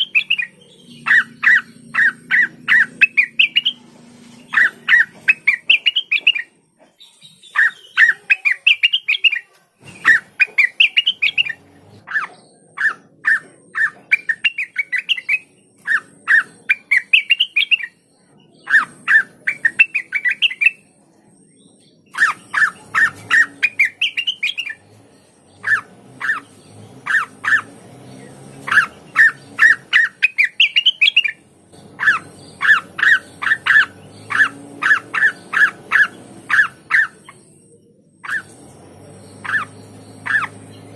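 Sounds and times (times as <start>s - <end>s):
bird singing sharp chirps: 0.0s - 40.9s.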